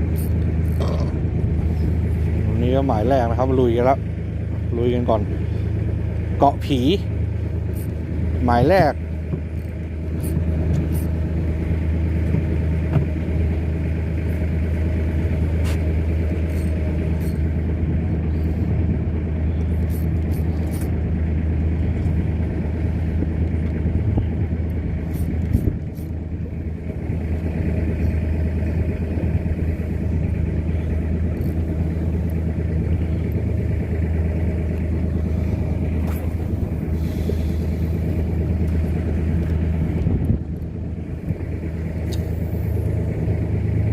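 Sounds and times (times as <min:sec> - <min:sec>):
boat engine humming: 0:00.0 - 0:43.9.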